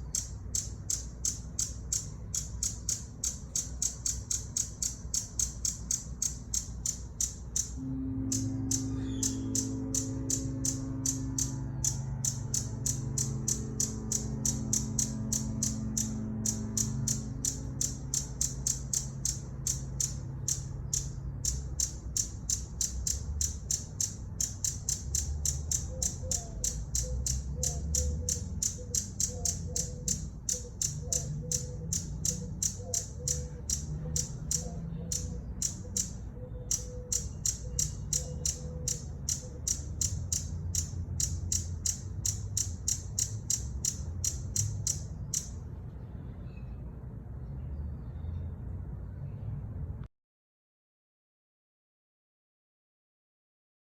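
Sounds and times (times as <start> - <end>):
hummingbird chip notes: 0.0 - 45.7
low background rumble: 0.0 - 50.1.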